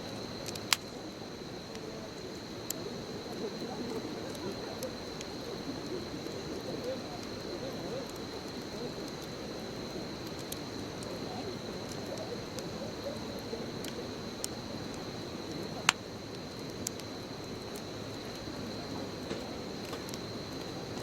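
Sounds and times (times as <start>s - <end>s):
bonfire burning: 0.0s - 21.0s
wood crackling and popping: 0.1s - 21.0s.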